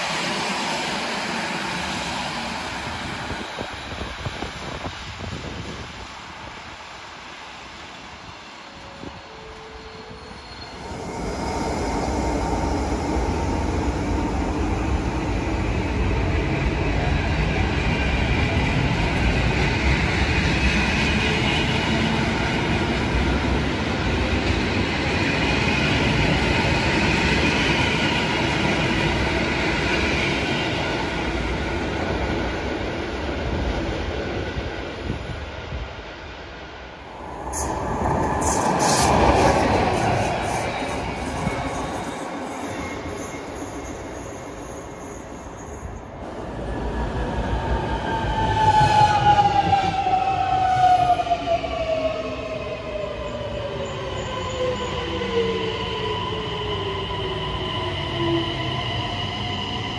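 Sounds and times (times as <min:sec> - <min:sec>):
train rumbling past: 0:07.6 - 0:59.9.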